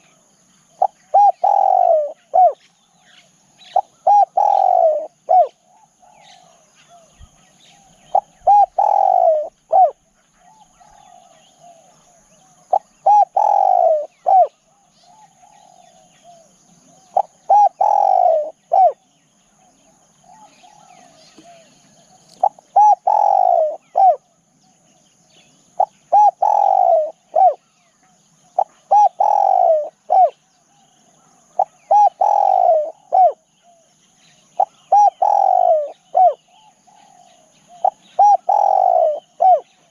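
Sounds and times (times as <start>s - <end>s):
dove cooing: 0.0s - 2.7s, 3.5s - 24.4s, 25.8s - 27.8s, 28.4s - 33.9s, 34.5s - 39.9s
faint bird twittering: 0.0s - 39.9s.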